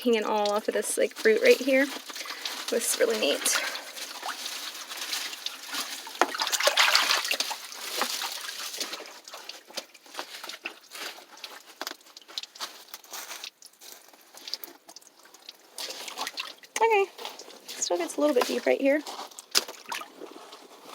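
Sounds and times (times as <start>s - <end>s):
stream trickling over rocks: 0.0s - 20.9s.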